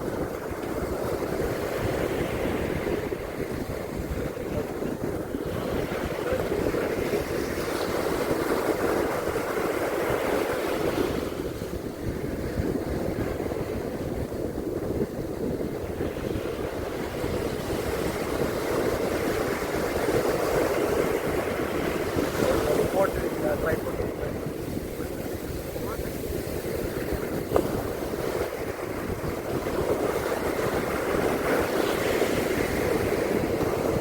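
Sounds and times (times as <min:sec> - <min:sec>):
ocean surf on beach: 0:00.0 - 0:34.0
wind buffeting microphone: 0:00.0 - 0:34.0.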